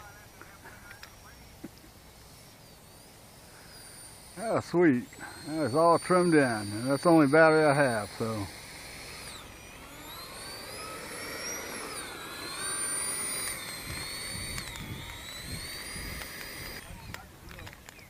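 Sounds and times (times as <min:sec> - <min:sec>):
electric ducted fan whine: 0:00.0 - 0:18.0.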